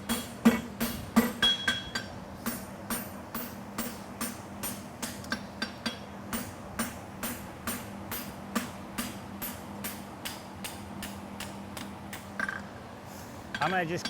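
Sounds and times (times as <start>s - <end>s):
hammer striking steel on anvil: 0.0s - 12.6s, 13.5s - 14.0s.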